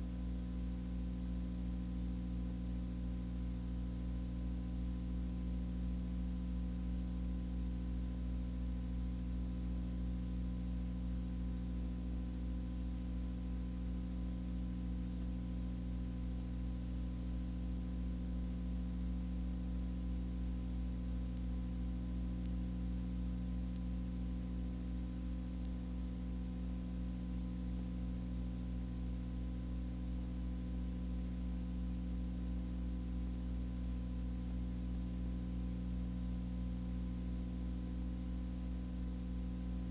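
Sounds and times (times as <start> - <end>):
low hum with hiss: 0.0 - 39.9.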